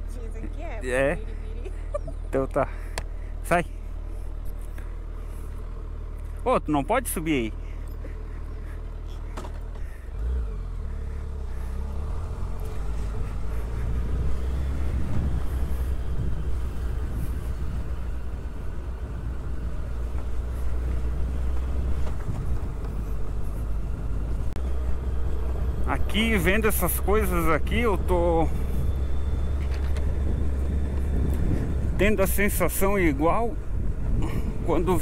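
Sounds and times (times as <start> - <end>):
wind and road noise: 0.0 - 35.0
motorcycle engine running: 2.6 - 35.0.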